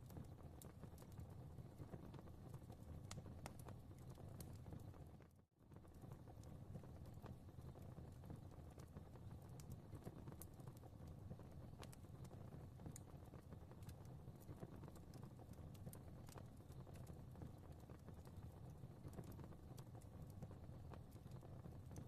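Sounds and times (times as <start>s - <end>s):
fire pops and snaps: 0.0s - 22.0s
low rumble of flames: 0.0s - 22.0s.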